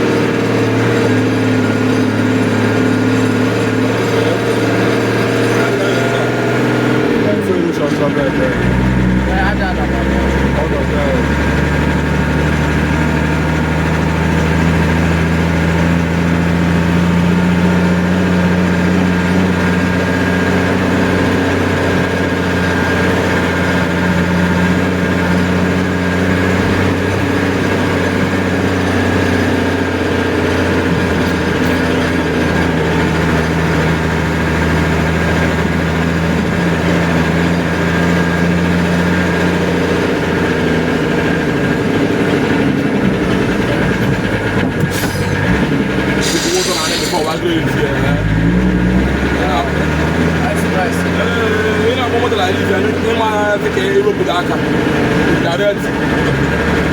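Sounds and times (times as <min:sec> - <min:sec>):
heavy engine running: 0:00.0 - 0:56.9.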